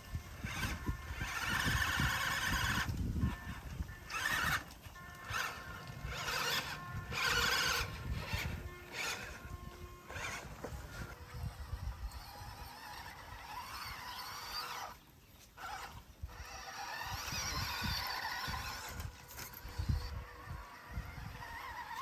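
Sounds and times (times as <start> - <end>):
electric motor and gearbox whining: 0.0 - 22.0.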